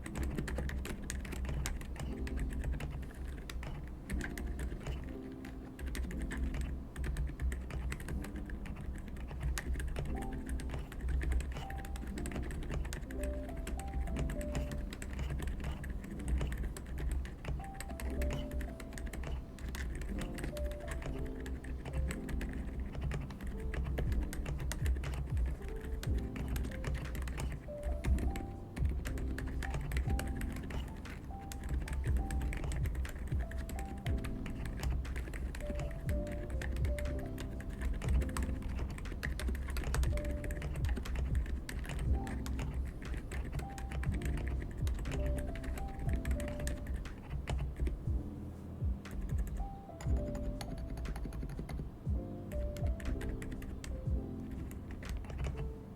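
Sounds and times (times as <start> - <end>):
mechanical keyboard typing: 0.0 - 48.2, 48.9 - 55.9
background music: 0.0 - 55.9.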